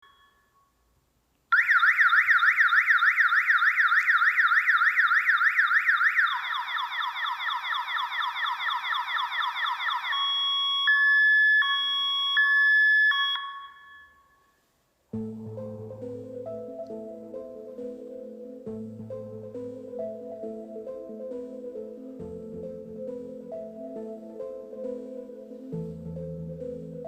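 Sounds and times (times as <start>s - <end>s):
electronic alarm siren: 1.5s - 14.3s, 16.5s - 27.0s.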